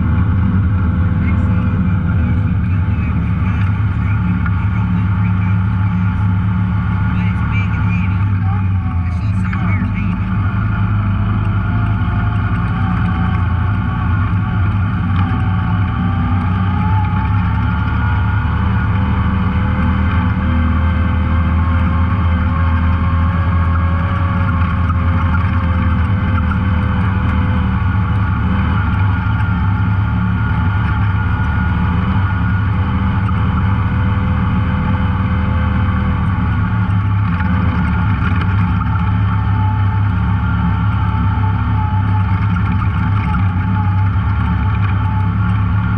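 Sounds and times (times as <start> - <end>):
off-road vehicle engine droning: 0.0 - 45.9.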